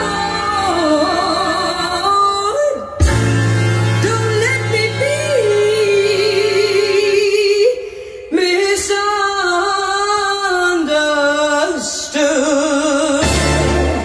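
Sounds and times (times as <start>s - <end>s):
singer with vibrato on hi-fi: 0.0s - 14.0s.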